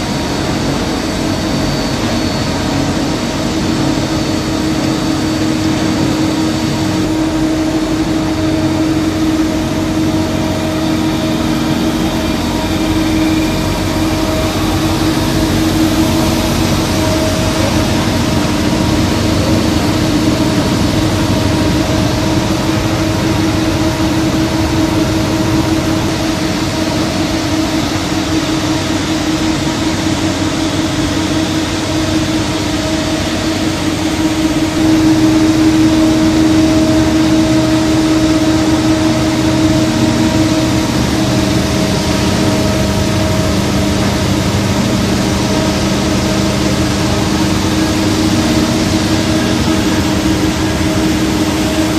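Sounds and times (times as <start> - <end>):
held drone: 0.0 - 51.9
machinery humming: 0.0 - 51.9.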